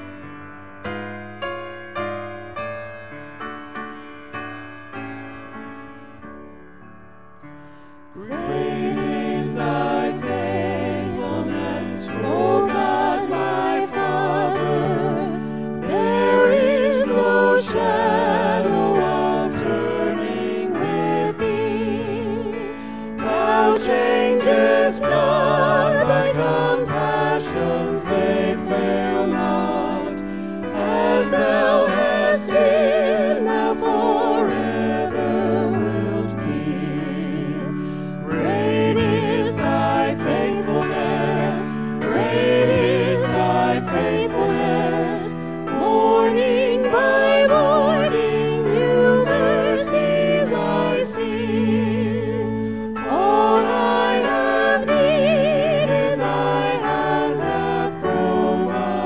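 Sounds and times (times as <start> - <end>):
voices singing a hymn: 7.6 - 59.0.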